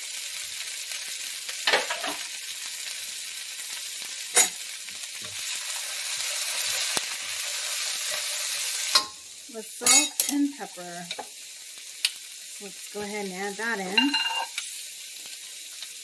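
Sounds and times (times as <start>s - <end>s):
vegetables sizzling in a wok: 0.0s - 16.0s
spatula stirring vegetables: 0.2s - 16.0s.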